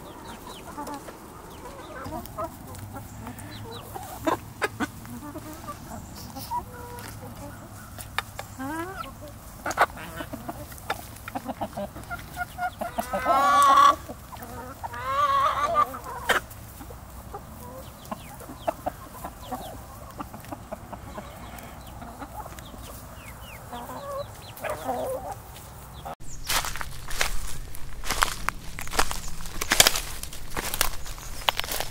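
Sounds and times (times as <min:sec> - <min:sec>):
hens clucking: 0:00.0 - 0:31.9.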